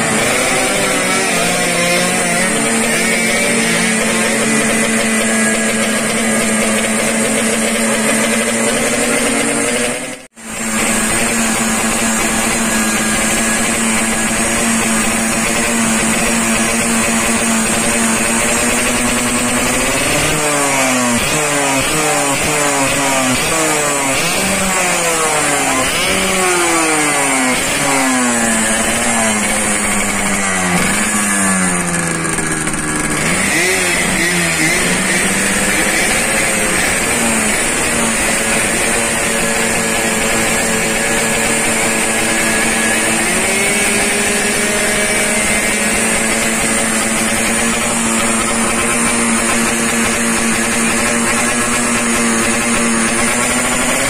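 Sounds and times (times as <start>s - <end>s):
motorcycle engine idling: 0.0s - 54.0s
two-stroke motorcycle engine revving: 0.0s - 54.0s.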